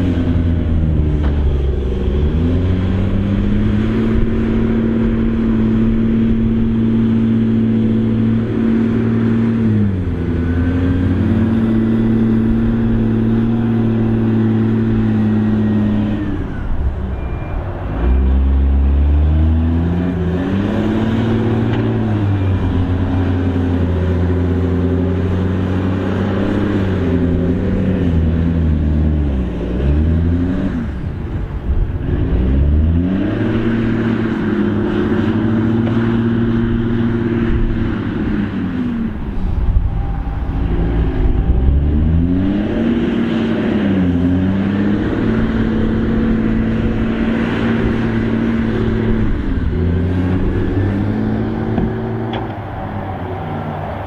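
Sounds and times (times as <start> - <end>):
dump truck diesel engine revving: 0.0 - 54.0.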